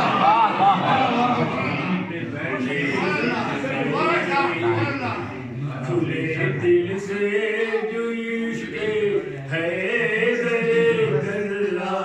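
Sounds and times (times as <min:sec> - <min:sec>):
man chanting into a microphone: 0:02.2 - 0:12.0.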